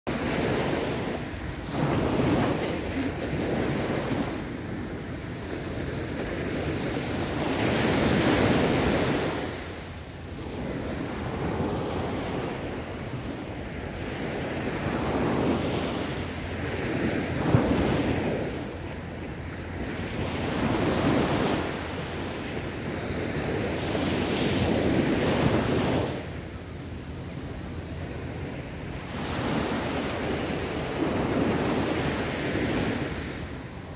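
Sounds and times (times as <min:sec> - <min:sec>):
small waves breaking on beach: 0:00.1 - 0:33.9
wind on microphone: 0:00.1 - 0:33.9.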